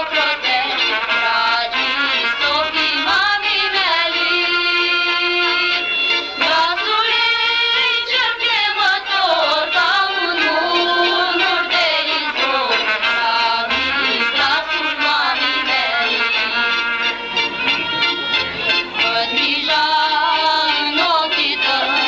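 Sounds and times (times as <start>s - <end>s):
folk song with vibrato singing: 0.0s - 22.0s.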